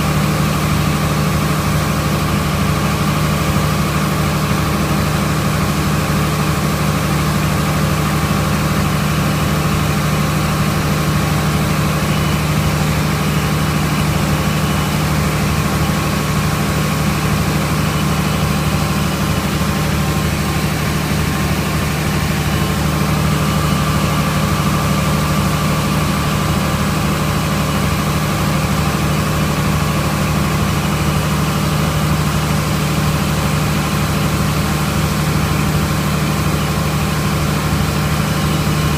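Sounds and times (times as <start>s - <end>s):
tractor and combine machinery droning: 0.0s - 38.9s.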